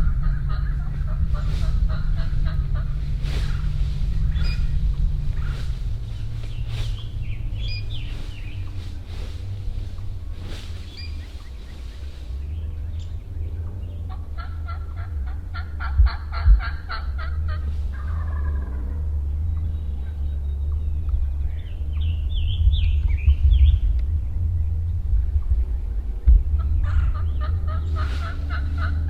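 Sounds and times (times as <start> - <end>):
turkey gobbling: 0.0 - 20.8, 26.4 - 29.0
wild turkey calls: 0.0 - 22.8, 25.4 - 29.0
low rumble: 0.0 - 29.0.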